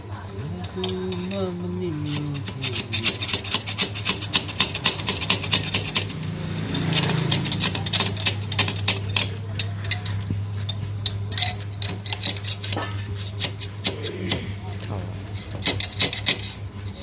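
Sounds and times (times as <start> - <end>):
steady low hum: 0.0 - 17.0
hand tool scraping metal: 0.5 - 17.0.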